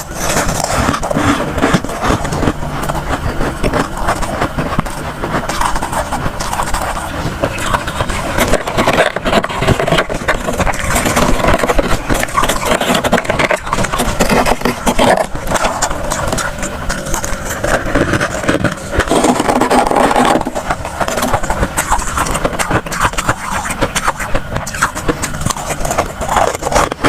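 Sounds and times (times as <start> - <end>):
freezer frost crunching: 0.0 - 27.0.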